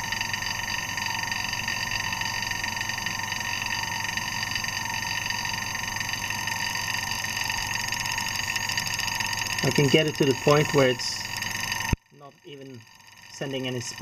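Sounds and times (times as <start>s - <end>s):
electric vacuum pump humming: 0.0s - 14.0s.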